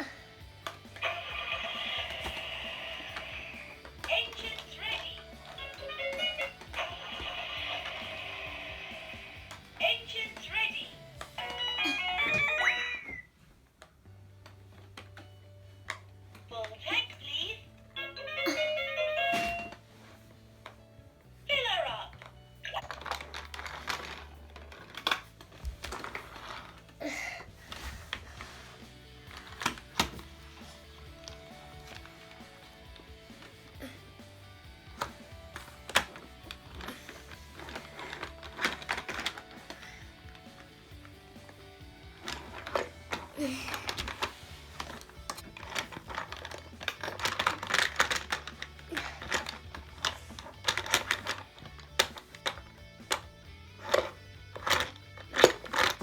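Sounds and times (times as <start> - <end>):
plastic toy pieces clattering: 0.0 - 12.9, 22.2 - 27.0, 27.7 - 56.0.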